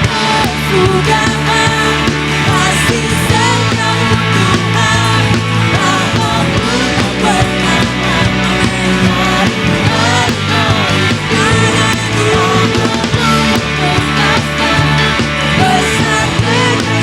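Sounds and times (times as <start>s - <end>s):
voices singing: 0.0s - 17.0s
worship band playing: 0.0s - 17.0s.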